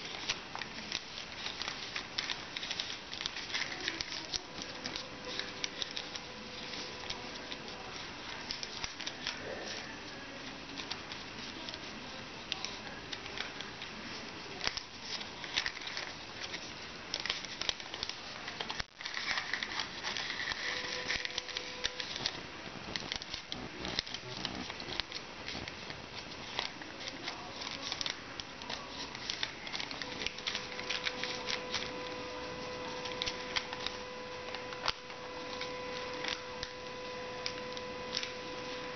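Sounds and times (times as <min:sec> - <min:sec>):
paper rustling and crinkling: 0:00.0 - 0:38.9.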